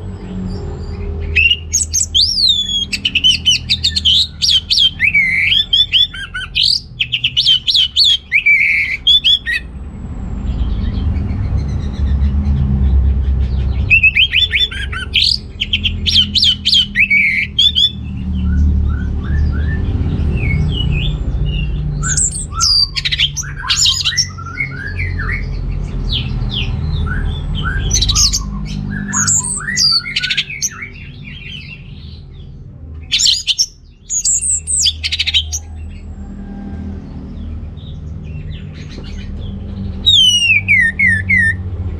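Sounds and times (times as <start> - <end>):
steady low rumble: 0.0 - 41.9.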